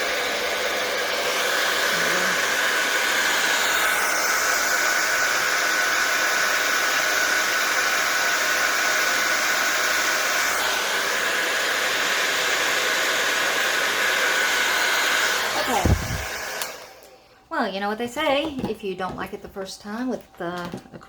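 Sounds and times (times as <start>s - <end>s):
blow dryer whining: 0.0s - 17.3s.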